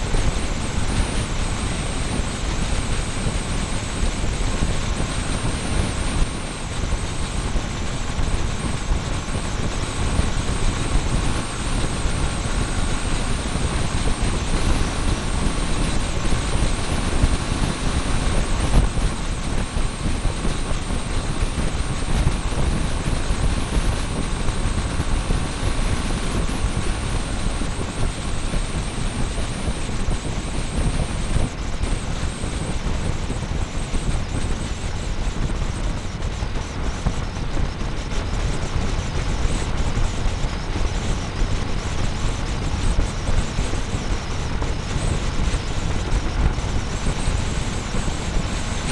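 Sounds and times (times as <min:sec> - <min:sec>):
road noise: 0:00.0 - 0:48.9
wind noise: 0:00.0 - 0:48.9.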